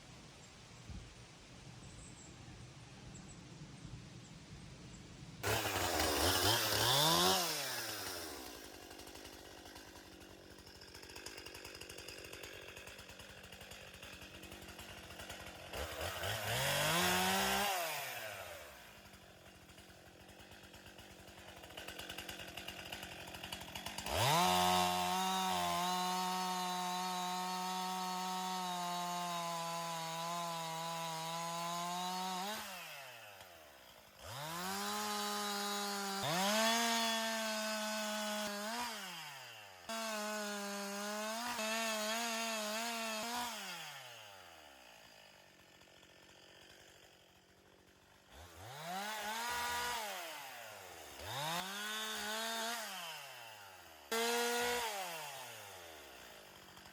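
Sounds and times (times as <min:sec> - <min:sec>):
chainsaw engine revving: 0:05.4 - 0:56.9.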